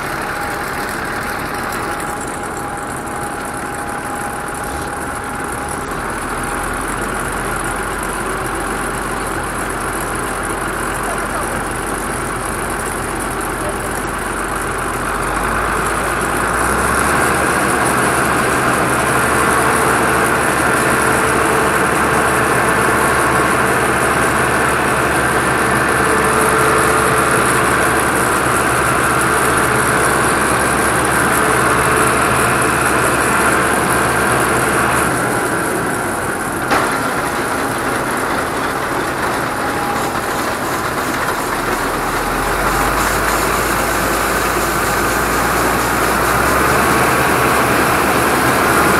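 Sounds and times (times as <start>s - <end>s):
combine harvester running: 0.0s - 48.9s
grain pouring from auger: 0.0s - 48.9s.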